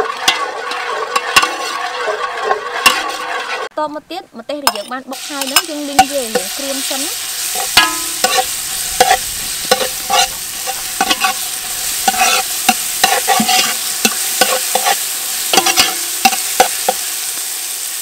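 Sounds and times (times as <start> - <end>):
metal ladle scraping pot: 0.0 - 3.7, 4.6 - 17.1
chillies sizzling in hot oil: 0.0 - 18.0.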